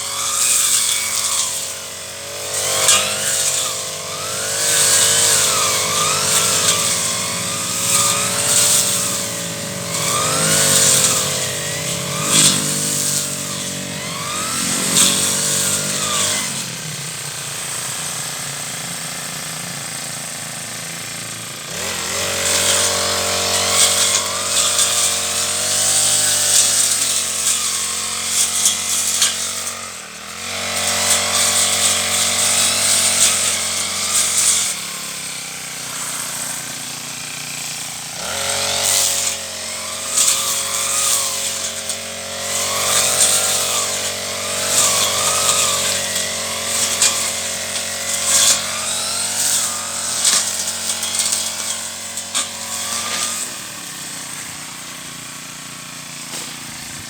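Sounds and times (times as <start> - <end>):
brush cutter engine: 0.0 - 57.0.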